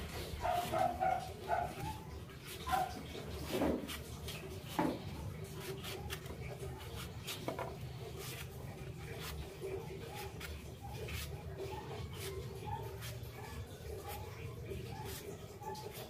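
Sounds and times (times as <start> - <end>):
knife scraping fruit: 0.0 - 16.0.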